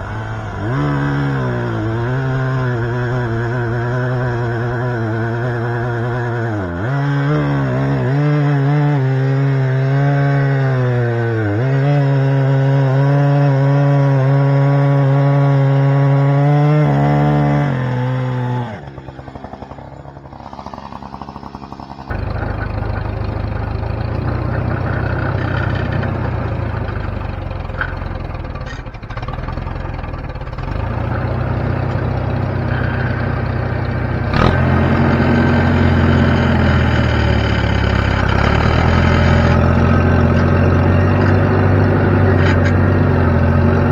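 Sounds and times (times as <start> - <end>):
rough low engine running: 0.0 - 43.9
sawmill engine running hard: 0.0 - 43.9.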